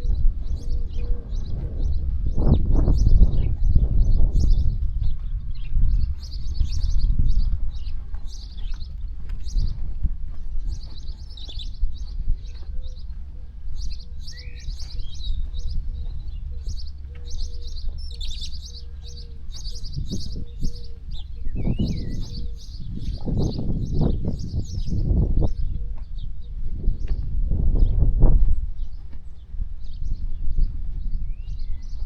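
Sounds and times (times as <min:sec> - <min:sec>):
small birds chirping: 0:00.0 - 0:27.3, 0:28.5 - 0:32.0
wind and sea rumble: 0:00.0 - 0:32.0.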